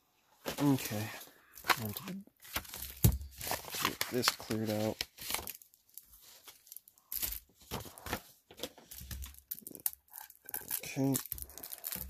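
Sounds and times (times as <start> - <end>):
packaging crinkling and tearing: 1.6 - 8.2, 8.8 - 12.0.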